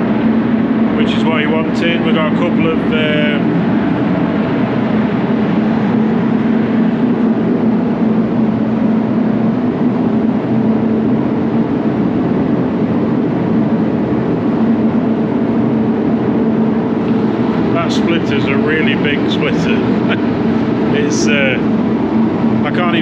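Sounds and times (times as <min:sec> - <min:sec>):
air-handling fans droning: 0:00.0 - 0:23.0.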